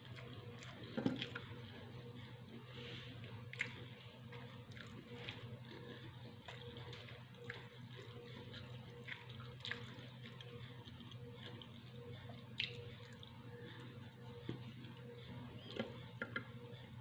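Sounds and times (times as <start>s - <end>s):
person chewing quietly: 0.0s - 17.0s.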